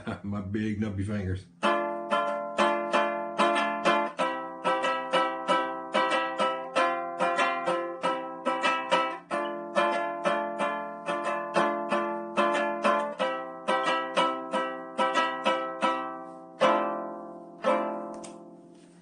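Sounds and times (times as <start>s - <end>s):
lyre strummed chords: 0.0s - 19.0s.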